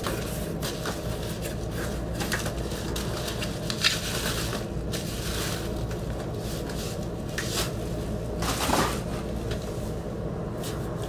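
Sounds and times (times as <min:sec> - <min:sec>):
packaging rustling and scraping: 0:00.0 - 0:09.7.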